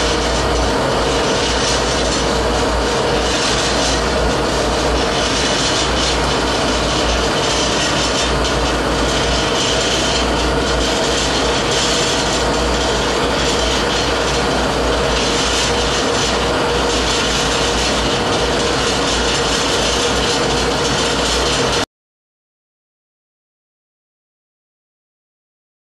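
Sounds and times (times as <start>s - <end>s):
mixer whirring and humming: 0.0s - 21.9s.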